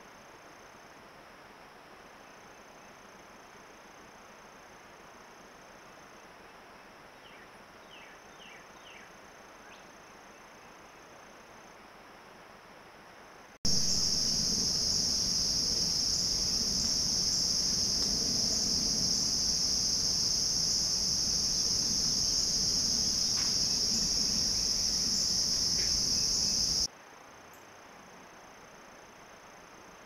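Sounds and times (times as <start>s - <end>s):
high-pitched insect chorus: 1.8s - 12.4s, 13.2s - 30.0s.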